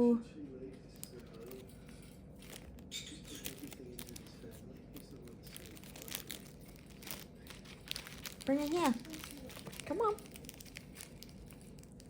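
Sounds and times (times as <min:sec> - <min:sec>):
crinkling toy handled by bird: 0:00.8 - 0:12.0.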